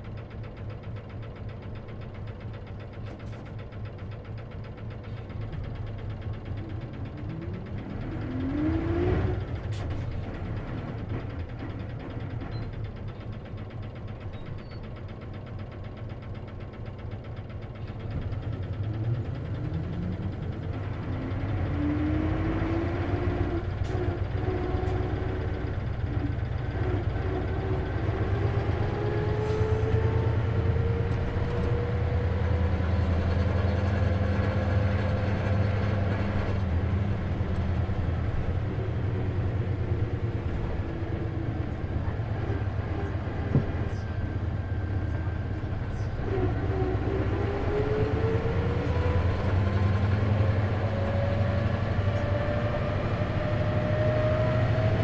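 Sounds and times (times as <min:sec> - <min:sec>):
bus engine hum with whine: 0:00.0 - 0:55.0.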